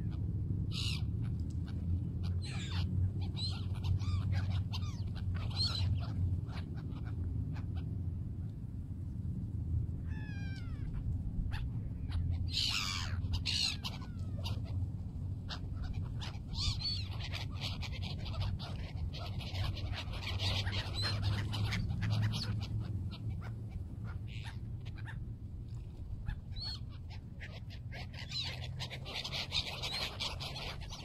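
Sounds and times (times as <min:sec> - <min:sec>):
gulls calling: 0:00.0 - 0:08.2, 0:08.9 - 0:31.0
steady low rumble: 0:00.0 - 0:31.0.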